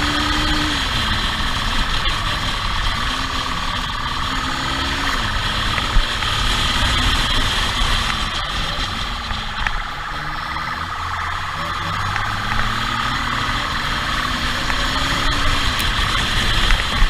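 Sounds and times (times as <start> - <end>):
steady high whine: 0.0 - 17.0
vehicle engine revving: 0.0 - 17.0.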